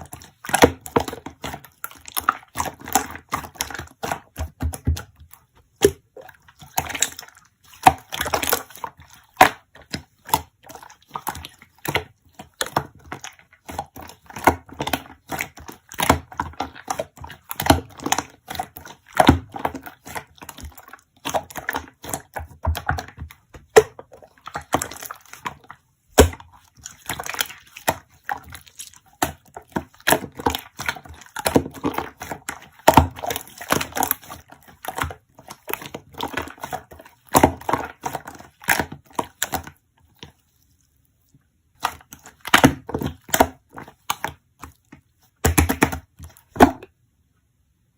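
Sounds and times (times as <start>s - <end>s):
slime squished by hand: 0.0s - 46.9s.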